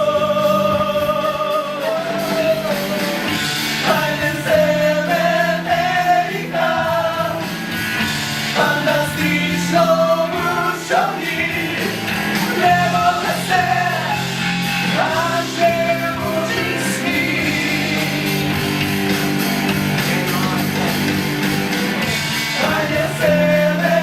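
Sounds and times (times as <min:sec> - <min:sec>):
person singing: 0:00.0 - 0:07.5, 0:08.5 - 0:21.1, 0:22.5 - 0:24.0
live band playing: 0:00.0 - 0:24.0.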